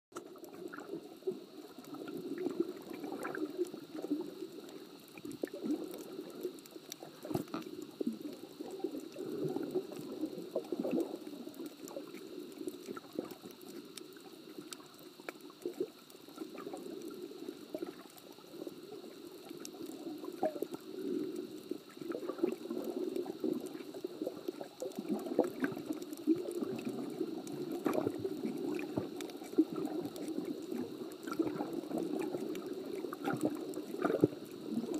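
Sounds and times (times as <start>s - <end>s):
underwater water sloshing: 0.2s - 34.9s.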